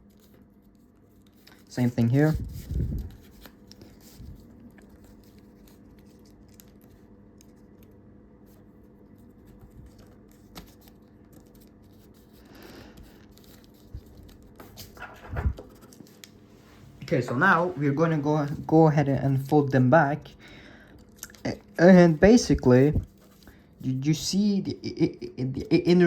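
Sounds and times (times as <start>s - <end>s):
paper rustling and creasing: 0.0s - 24.6s.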